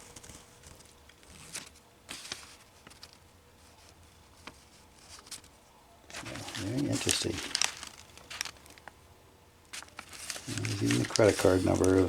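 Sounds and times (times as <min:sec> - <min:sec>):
paper rustling: 0:00.0 - 0:09.0, 0:09.7 - 0:12.0.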